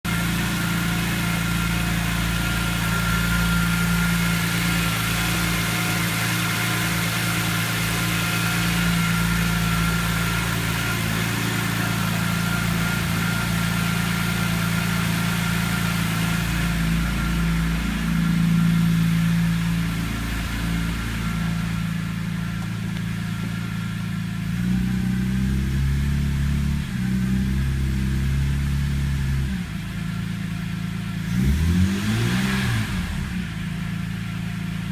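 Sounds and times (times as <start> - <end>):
car engine idling roughly: 0.0 - 31.3.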